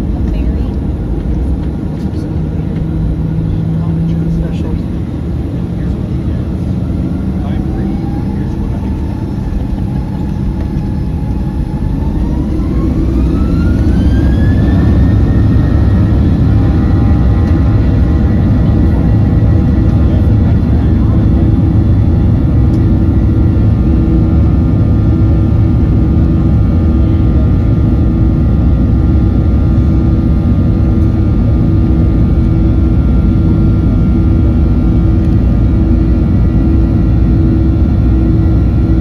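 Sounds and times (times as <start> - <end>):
airplane cabin engine rumble: 0.0 - 39.0
steady whining tones: 0.0 - 39.0.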